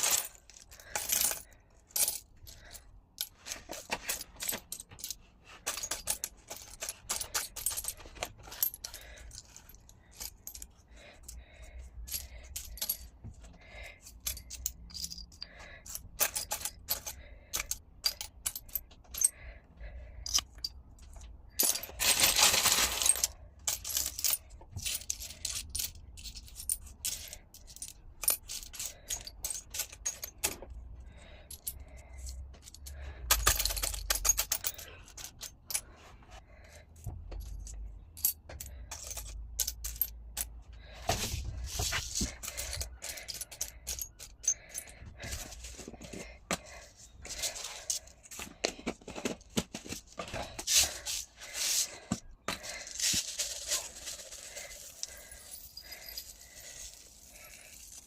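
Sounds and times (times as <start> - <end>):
glass pieces clinking and scraping: 0.0 - 19.5, 20.2 - 30.8, 31.5 - 36.0, 37.4 - 58.0.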